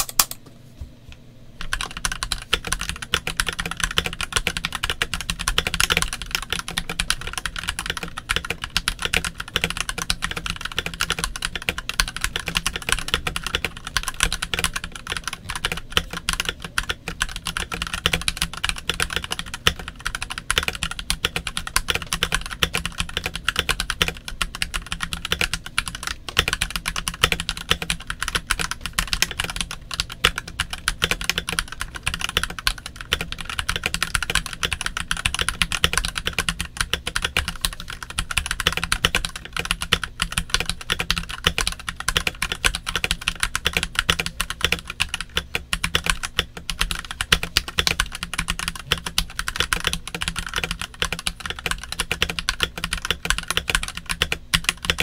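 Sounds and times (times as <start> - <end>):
mechanical keyboard typing: 0.0 - 0.4, 1.6 - 55.0.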